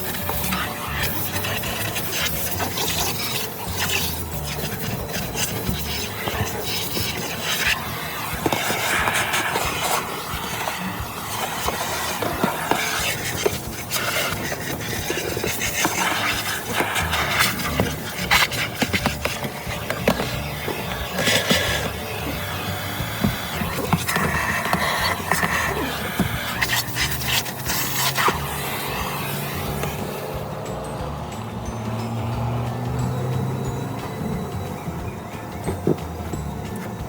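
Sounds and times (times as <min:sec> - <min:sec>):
scratchy rubbing and scraping: 0:00.0 - 0:30.4.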